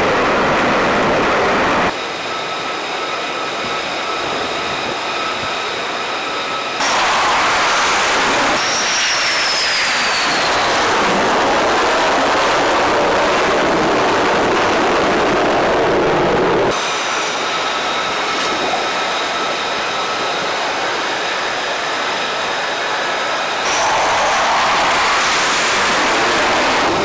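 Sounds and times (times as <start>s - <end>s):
jet engines rushing: 0.0s - 27.0s
turbine whine with high tones: 0.0s - 27.0s.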